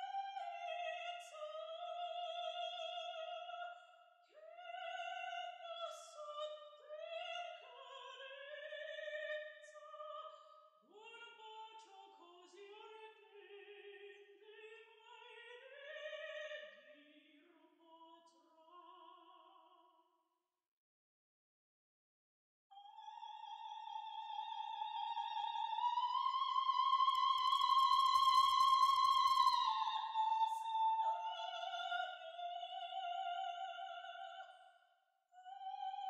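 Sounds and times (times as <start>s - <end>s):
soprano operatic singing: 0.0s - 19.8s, 22.8s - 34.7s, 35.4s - 36.0s.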